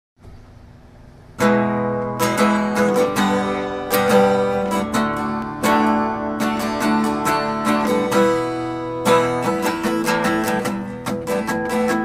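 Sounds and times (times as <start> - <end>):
guitar strumming chords: 1.3 - 12.0.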